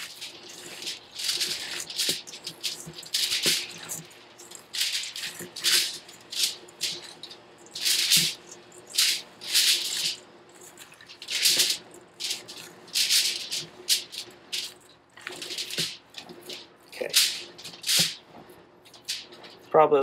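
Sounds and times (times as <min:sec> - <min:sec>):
hands kneading ground meat: 0:00.0 - 0:19.9.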